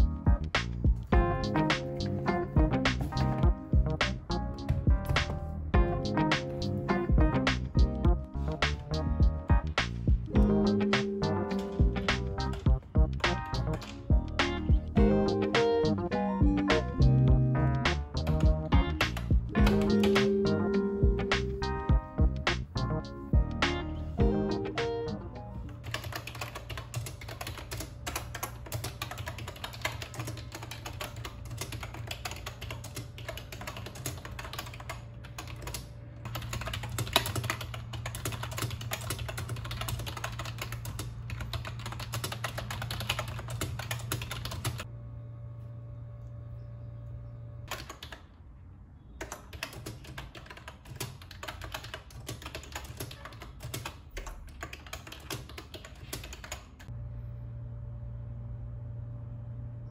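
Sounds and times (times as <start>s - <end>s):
rapid keyboard typing: 0.0s - 22.8s, 25.6s - 44.9s, 47.6s - 48.4s, 49.2s - 56.9s.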